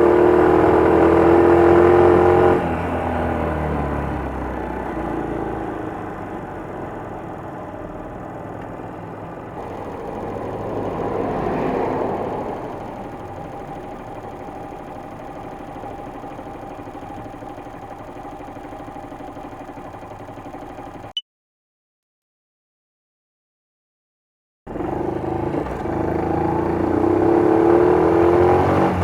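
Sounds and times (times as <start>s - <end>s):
small motorcycle engine running: 0.0s - 21.2s, 24.7s - 29.0s.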